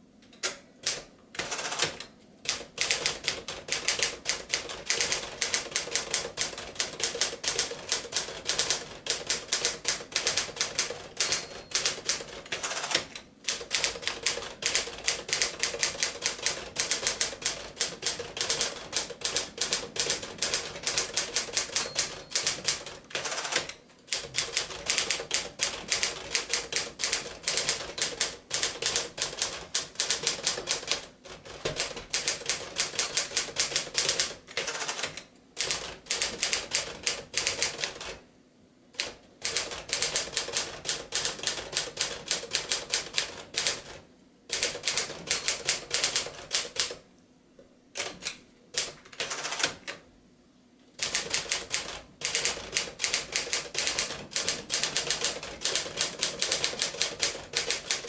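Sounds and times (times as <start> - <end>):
manual typewriter keystroke clacks: 0.4 - 38.2, 39.0 - 47.0, 48.0 - 50.0, 51.0 - 58.0.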